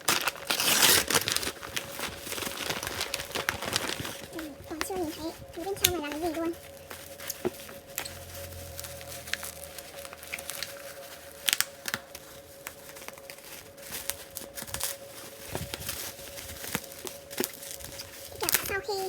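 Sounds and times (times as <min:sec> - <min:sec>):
packing wrap crinkling and tearing: 0:00.0 - 0:19.0.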